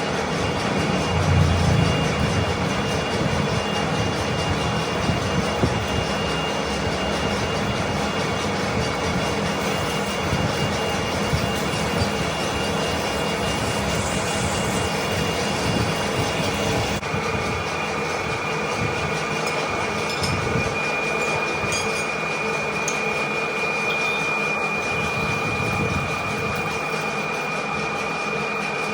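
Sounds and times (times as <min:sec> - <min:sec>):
metal lathe whining: 0:00.0 - 0:28.9.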